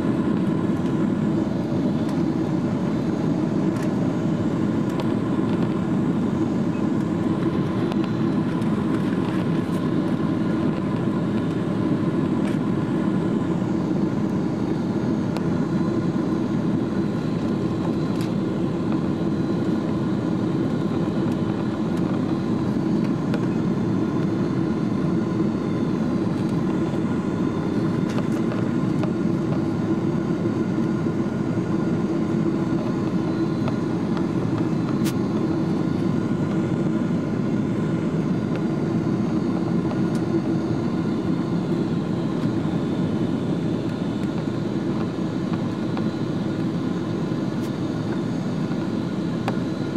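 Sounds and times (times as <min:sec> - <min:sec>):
jet engine hum: 0:00.0 - 0:49.9.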